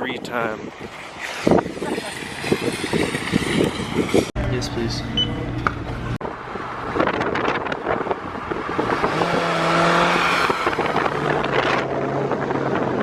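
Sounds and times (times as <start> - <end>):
road noise: 0.0 - 13.0
car engine drone: 0.6 - 13.0.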